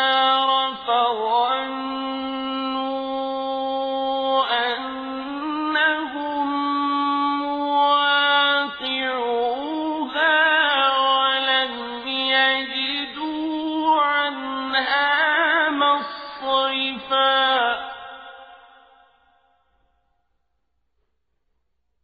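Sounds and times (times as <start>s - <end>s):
man reciting melodically: 0.0s - 18.8s.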